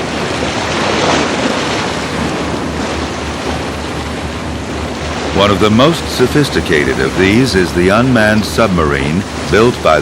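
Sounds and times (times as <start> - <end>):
sea and wind rushing: 0.0 - 10.0.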